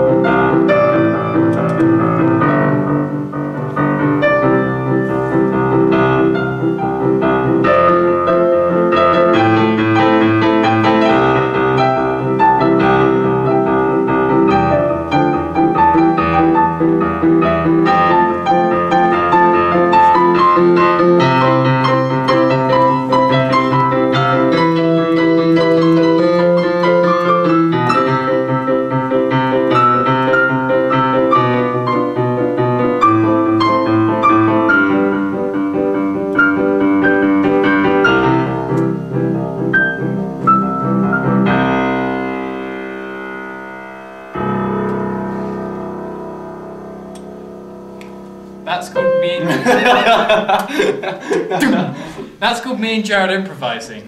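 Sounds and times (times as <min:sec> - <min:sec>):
improvised piano playing: 0:00.0 - 0:54.0.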